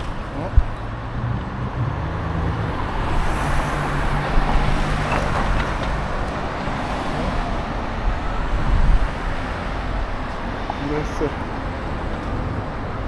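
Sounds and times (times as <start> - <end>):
city street traffic: 0.0 - 13.0
engine humming low: 0.0 - 13.0.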